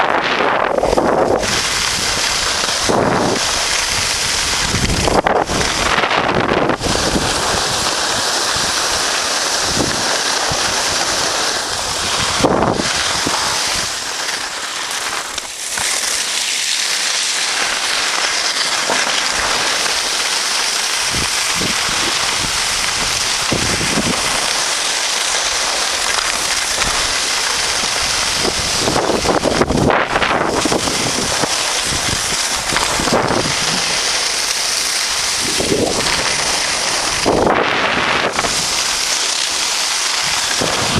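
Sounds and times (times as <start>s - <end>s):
wind rushing over microphone: 0.0s - 14.1s, 21.0s - 24.7s, 25.4s - 40.9s
skis hissing on snow: 0.0s - 40.9s.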